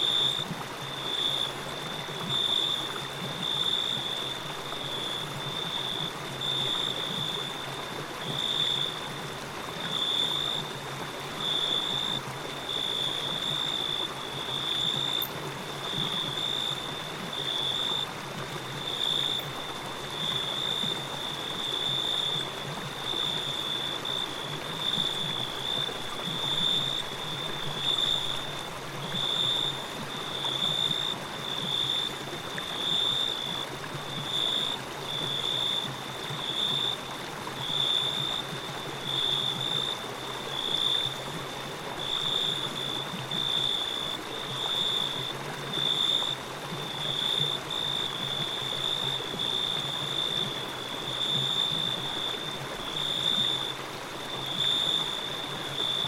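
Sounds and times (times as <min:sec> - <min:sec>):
flowing stream: 0:00.0 - 0:56.0.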